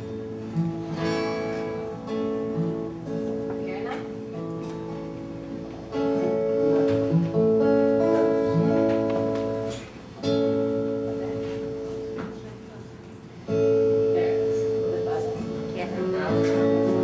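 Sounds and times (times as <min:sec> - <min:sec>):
acoustic guitars strumming chords: 0:00.0 - 0:17.0.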